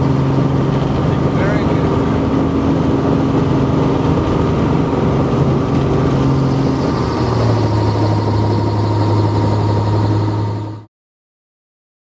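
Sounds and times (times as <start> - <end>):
helicopter engine and rotor hum: 0.0 - 10.9.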